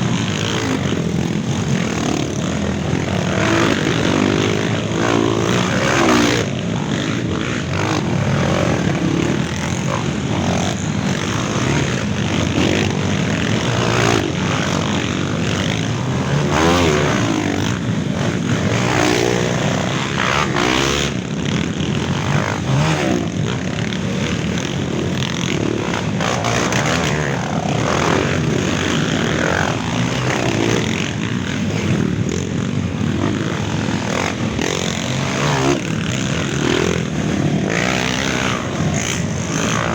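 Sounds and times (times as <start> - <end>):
motorcycle engines revving and passing: 0.0 - 39.9.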